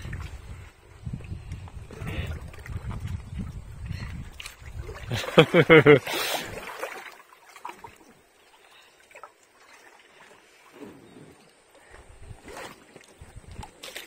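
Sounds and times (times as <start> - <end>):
paddles splashing in water: 0.0 - 14.0.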